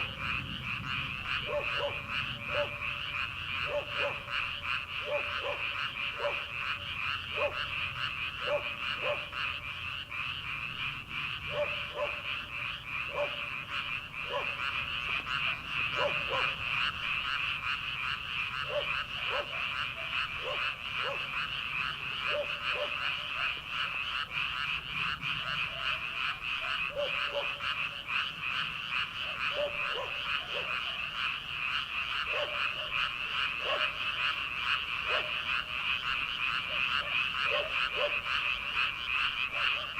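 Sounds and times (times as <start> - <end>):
high frog chorus: 0.0 - 39.9
low frog croaks: 0.0 - 39.9.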